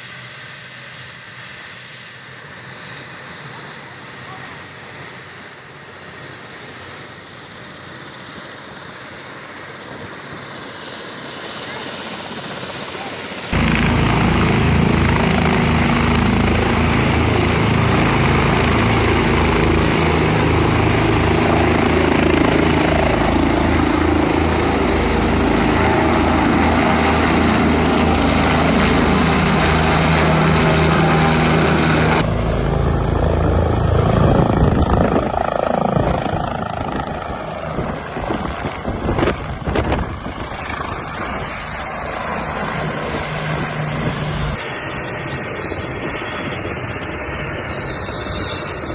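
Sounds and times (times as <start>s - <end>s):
helicopter engine and rotor drone: 0.0s - 48.9s.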